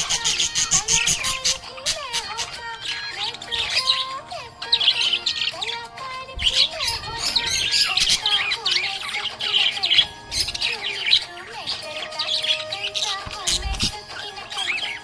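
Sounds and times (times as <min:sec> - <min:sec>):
background music: 0:00.0 - 0:15.0
budgerigar chirping and chattering: 0:00.0 - 0:15.0.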